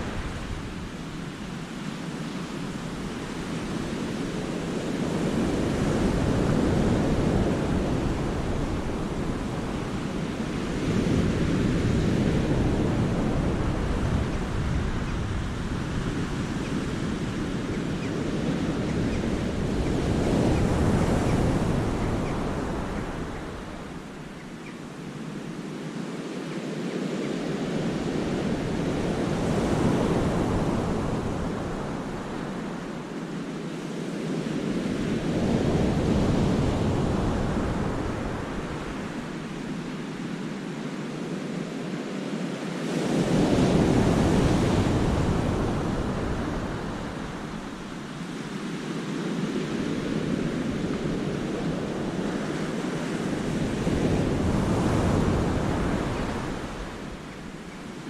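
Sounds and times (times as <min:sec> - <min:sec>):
wind noise on microphone: 0:00.0 - 0:25.9, 0:27.0 - 0:58.0.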